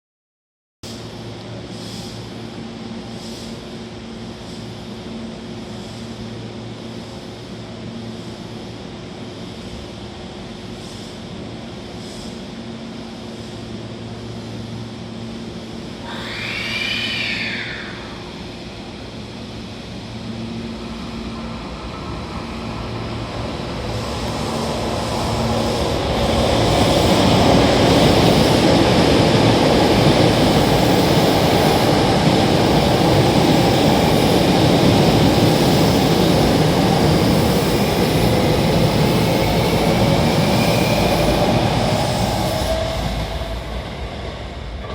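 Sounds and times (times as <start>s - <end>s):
electric train hum: 0.9s - 44.9s
train wheel and motor noise: 0.9s - 44.9s.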